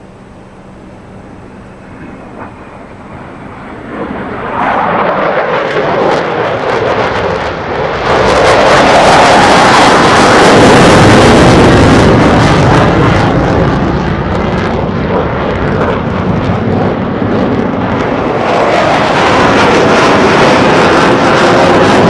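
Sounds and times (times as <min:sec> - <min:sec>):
military jet engine roar: 0:00.0 - 0:22.0.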